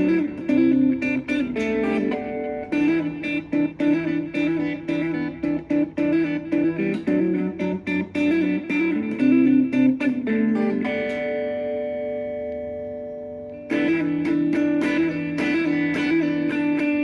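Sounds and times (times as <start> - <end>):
guitar chord ringing: 0.0 - 17.0
guitar picked notes: 0.0 - 17.0.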